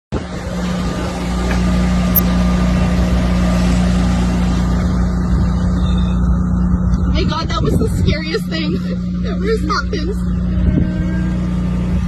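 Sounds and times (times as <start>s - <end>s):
engine motor humming: 0.1s - 12.0s.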